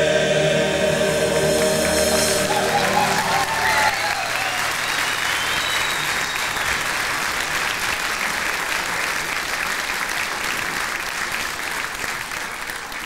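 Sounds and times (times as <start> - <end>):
audience applauding: 1.6 - 13.0.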